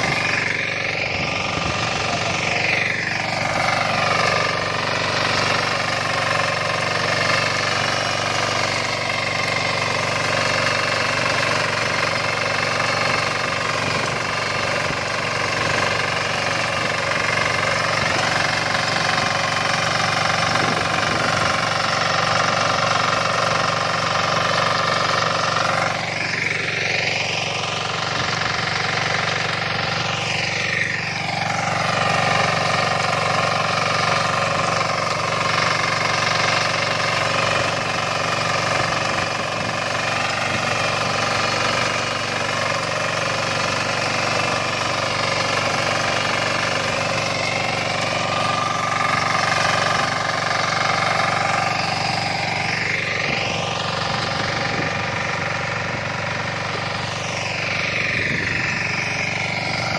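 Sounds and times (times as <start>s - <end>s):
diesel power weeder running: 0.0s - 59.9s
tines churning stony soil: 0.0s - 59.9s.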